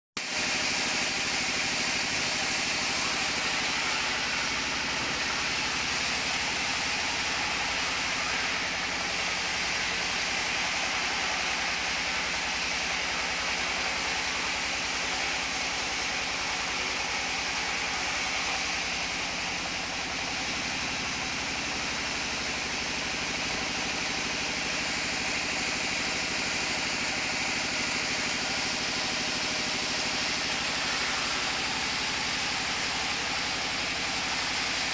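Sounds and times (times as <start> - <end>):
band saw machine running: 0.2 - 34.9
band saw cutting wood: 1.1 - 34.9.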